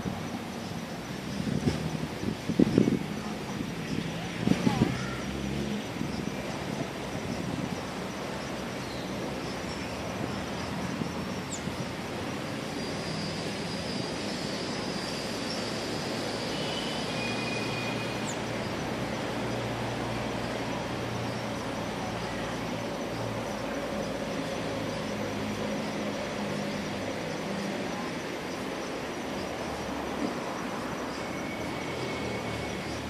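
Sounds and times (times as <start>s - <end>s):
distant road traffic: 0.0s - 33.0s.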